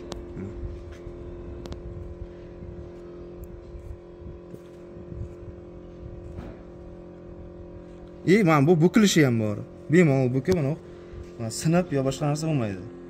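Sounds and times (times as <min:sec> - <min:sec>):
low rumble: 0:00.0 - 0:13.0
motor humming: 0:00.0 - 0:13.0.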